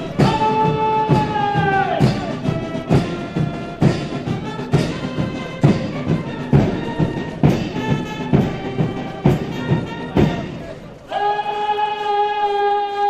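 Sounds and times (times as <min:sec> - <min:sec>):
brass band march: 0:00.0 - 0:13.0.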